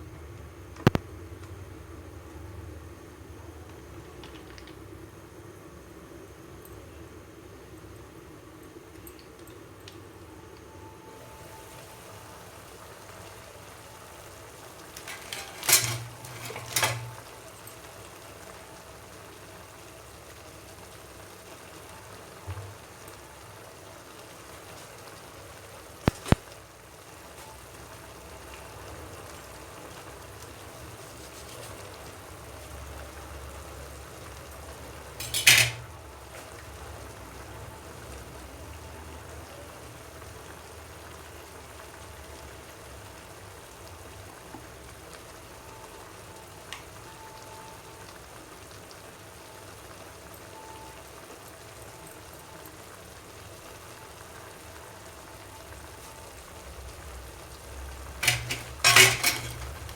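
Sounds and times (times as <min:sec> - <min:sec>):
soup simmering hiss: 0:00.0 - 0:59.9.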